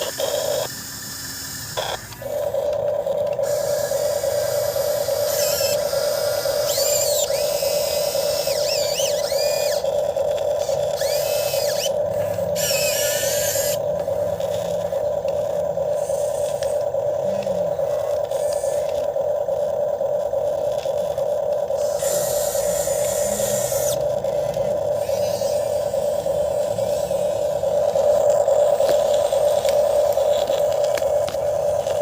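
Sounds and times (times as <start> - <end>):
model excavator electric whine: 0.0 - 32.0
motor whines rising and falling: 0.0 - 32.0.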